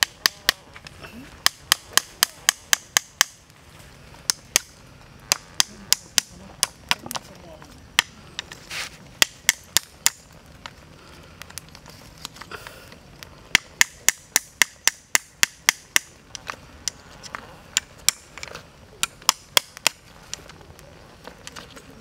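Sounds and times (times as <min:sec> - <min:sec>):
snails popping on charcoal: 0:00.0 - 0:22.0.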